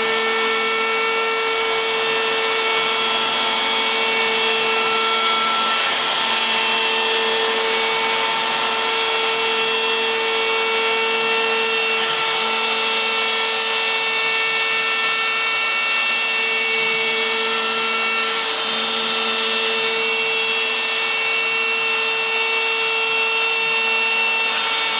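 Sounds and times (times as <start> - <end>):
router spindle whine and cutting: 0.0 - 24.9.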